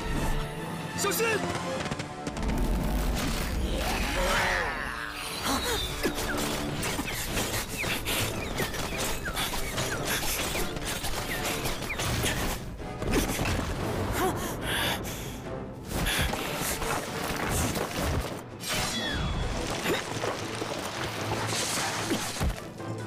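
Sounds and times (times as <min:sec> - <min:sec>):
soundtrack music: 0:00.0 - 0:23.0.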